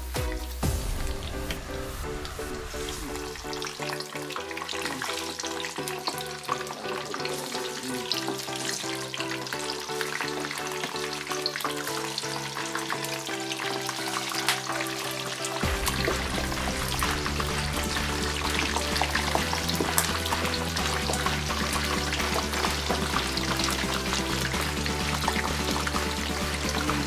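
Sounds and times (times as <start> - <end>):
background music: 0.0 - 27.0
food deep-frying in oil: 0.9 - 27.0.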